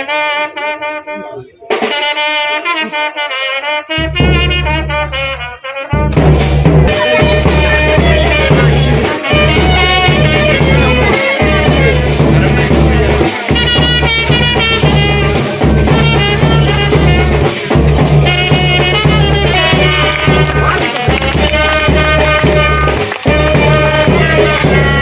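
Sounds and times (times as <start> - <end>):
band with steady beat: 0.0 - 25.0.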